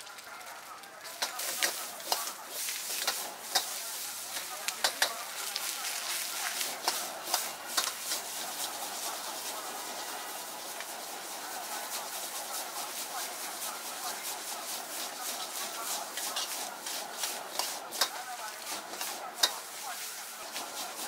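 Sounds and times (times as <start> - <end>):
noodles sizzling: 0.0 - 21.0.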